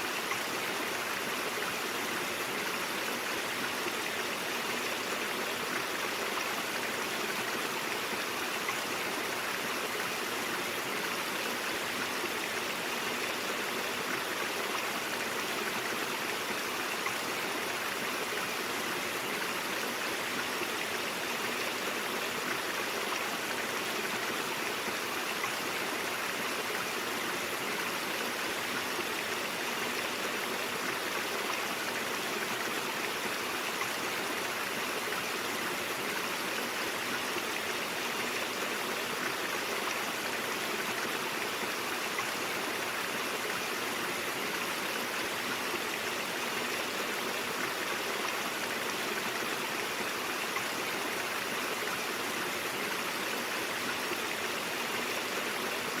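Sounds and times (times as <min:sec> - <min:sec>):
brook flowing: 0:00.0 - 0:56.0.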